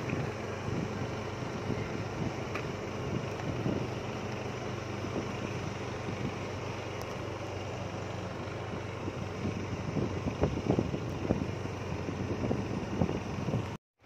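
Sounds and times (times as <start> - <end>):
wind rushing over microphone: 0.0 - 6.8, 8.5 - 13.8
vehicle engine running: 0.0 - 13.8.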